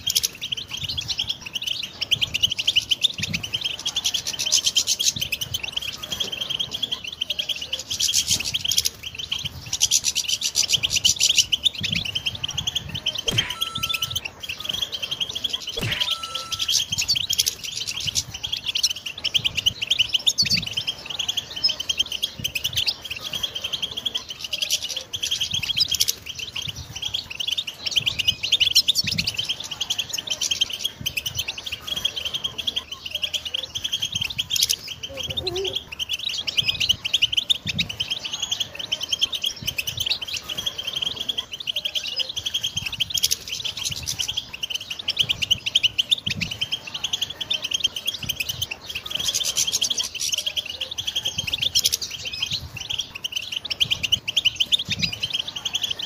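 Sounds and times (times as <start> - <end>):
goldfinch twittering song: 0.0 - 56.0.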